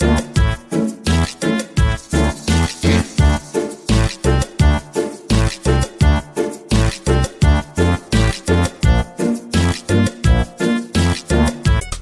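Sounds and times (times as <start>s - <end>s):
upbeat music with bass beat: 0.0s - 12.0s.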